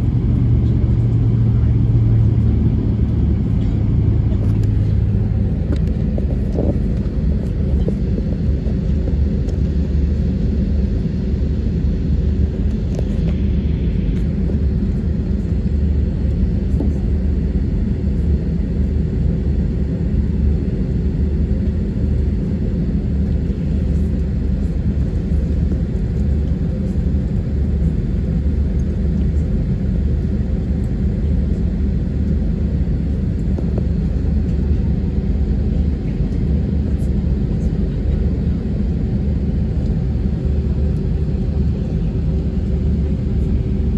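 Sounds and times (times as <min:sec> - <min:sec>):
airplane cabin rumble: 0:00.0 - 0:43.9.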